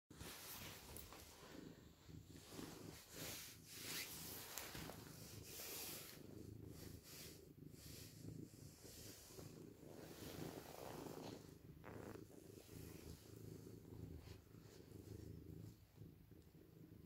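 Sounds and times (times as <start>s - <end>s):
cat purring: 0.1s - 17.0s.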